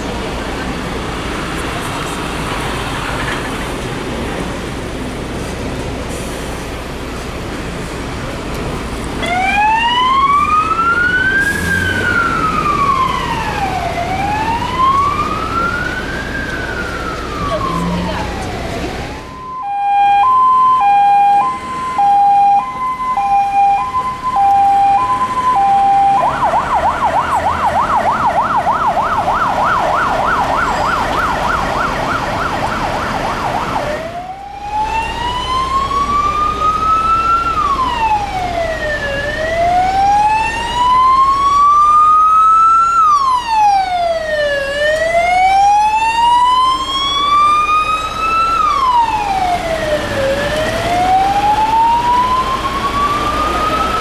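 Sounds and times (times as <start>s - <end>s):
fire engine siren: 9.1s - 54.0s.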